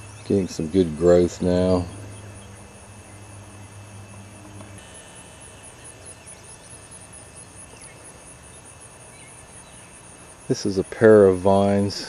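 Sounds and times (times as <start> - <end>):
insects chirping: 0.0 - 12.0
low steady hum: 0.0 - 12.0.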